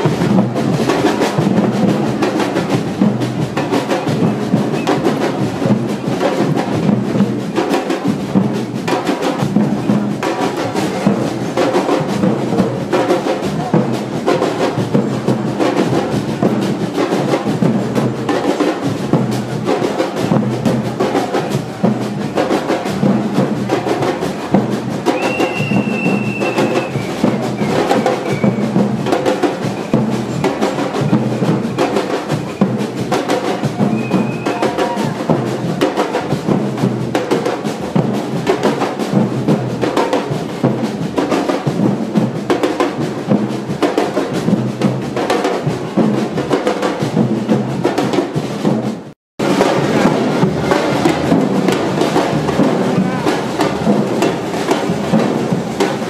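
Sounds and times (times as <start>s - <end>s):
street drumming band: 0.0s - 56.0s.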